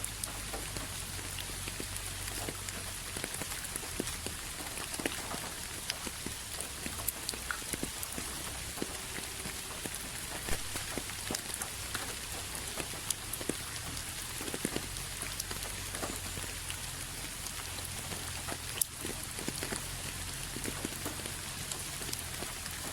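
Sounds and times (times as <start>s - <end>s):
rain falling: 0.0s - 22.9s
raindrops pattering on a surface: 0.0s - 22.9s.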